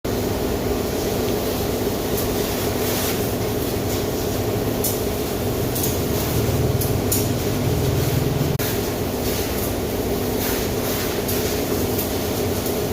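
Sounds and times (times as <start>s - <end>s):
car wash machinery droning: 0.1s - 12.9s.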